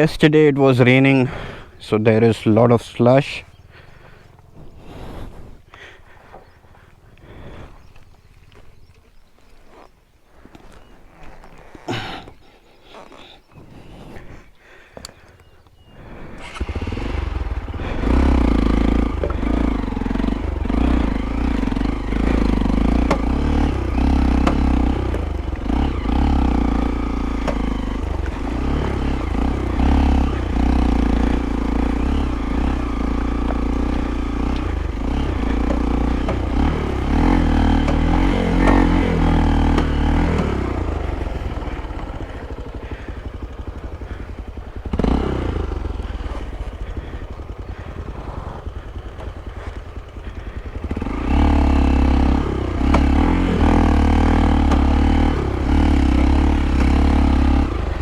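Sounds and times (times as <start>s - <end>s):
motorcycle engine revving: 0.8s - 14.4s, 15.0s - 58.0s.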